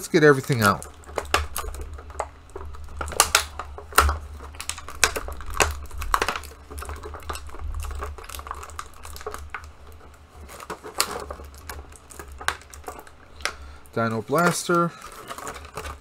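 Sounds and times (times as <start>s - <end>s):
low steady hum: 0.0s - 16.0s
plastic packaging crinkling: 0.0s - 16.0s.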